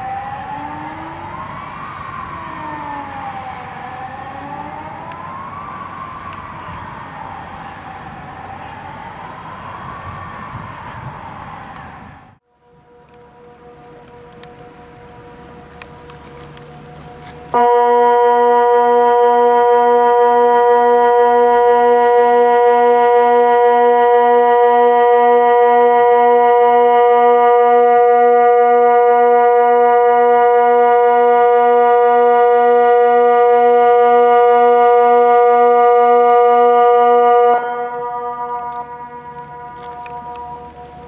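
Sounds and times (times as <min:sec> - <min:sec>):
electronic siren steady tone: 0:00.0 - 0:41.0.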